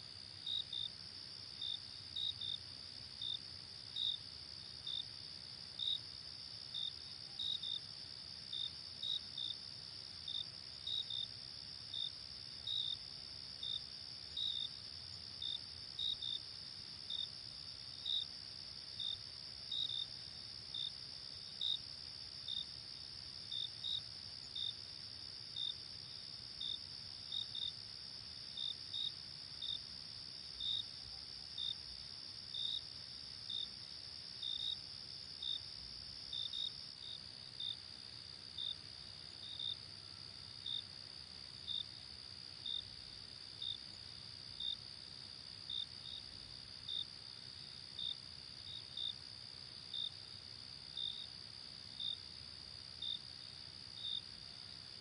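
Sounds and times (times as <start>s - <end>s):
insect chirps: 0.0s - 55.0s.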